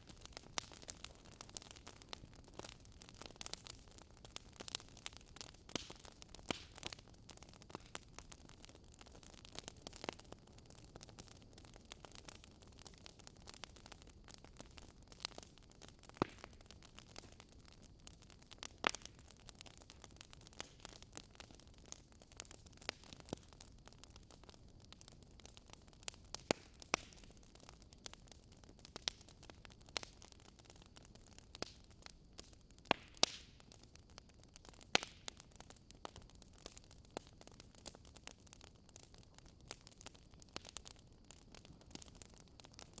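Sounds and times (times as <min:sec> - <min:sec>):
fire crackling and popping: 0:00.0 - 0:43.0
wood fire hissing: 0:00.0 - 0:43.0.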